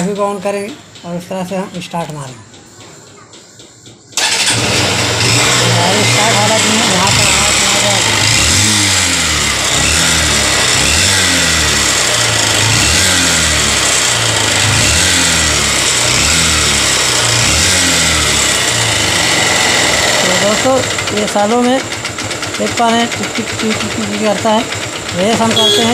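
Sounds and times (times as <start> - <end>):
engine ticking: 0.0 - 25.9
motorcycle engine revving: 4.2 - 25.9.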